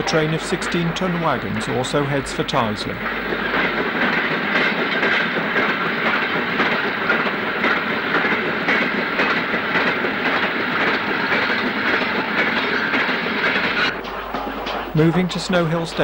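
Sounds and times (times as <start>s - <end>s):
wagon wheels clattering on rails: 0.0s - 16.0s.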